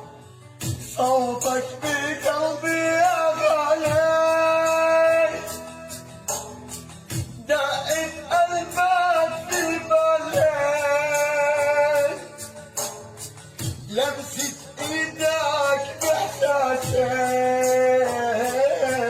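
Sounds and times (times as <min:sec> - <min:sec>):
musical accompaniment: 0:00.0 - 0:19.0
percussion hits: 0:00.6 - 0:19.0.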